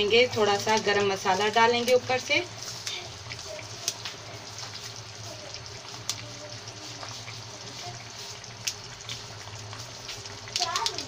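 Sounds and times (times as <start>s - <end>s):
gravy bubbling in a pan: 0.0s - 11.0s.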